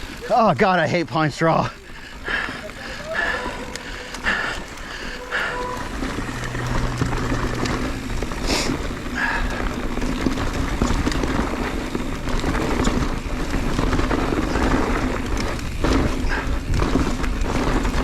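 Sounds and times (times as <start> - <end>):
bike clicks and rattles: 0.0 - 18.0
bike tyres rolling over dirt: 0.0 - 18.0.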